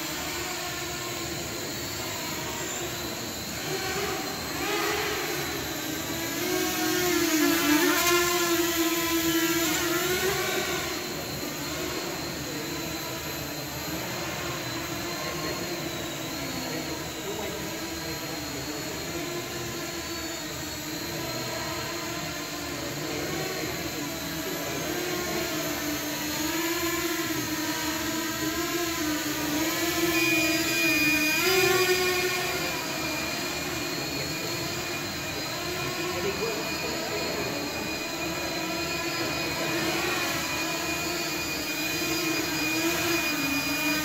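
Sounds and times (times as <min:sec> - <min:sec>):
quadcopter motors whirring: 0:00.0 - 0:44.0.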